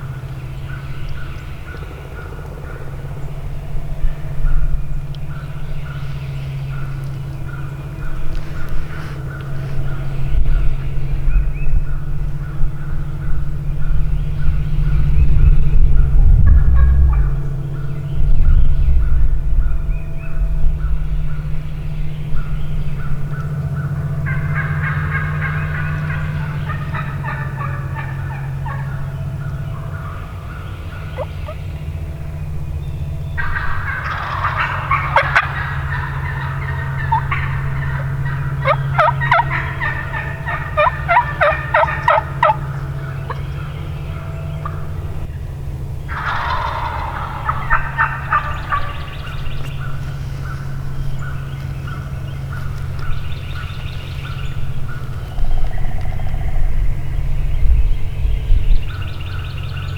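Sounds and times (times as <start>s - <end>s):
steady low hum: 0.0s - 59.9s
turkeys gobbling: 0.0s - 59.9s.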